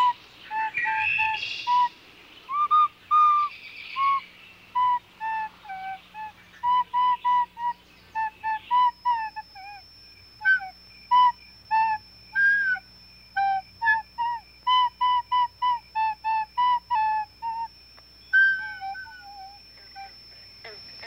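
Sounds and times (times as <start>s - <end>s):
flute-like wind instrument notes: 0.0s - 20.8s
faint high whine: 0.0s - 21.0s.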